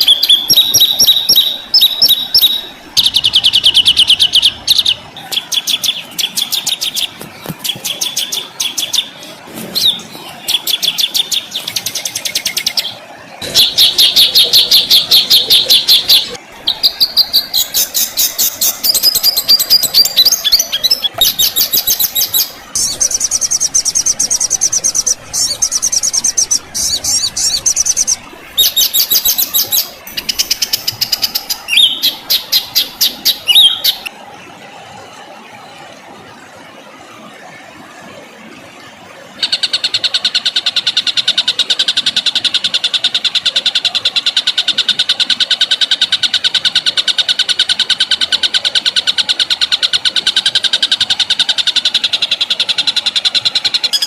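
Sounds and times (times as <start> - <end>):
bird harsh rapid trills: 0.0 - 34.1, 39.4 - 54.0.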